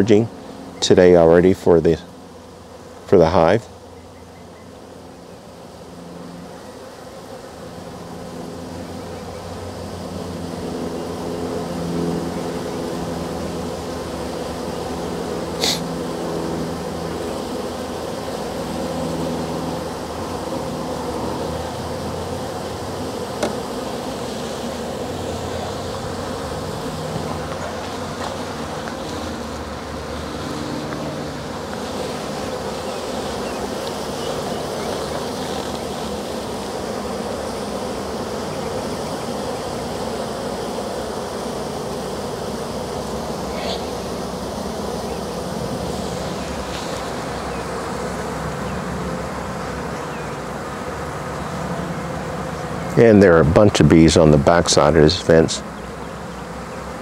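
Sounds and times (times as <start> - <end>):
bee swarm buzzing: 0.0 - 57.0.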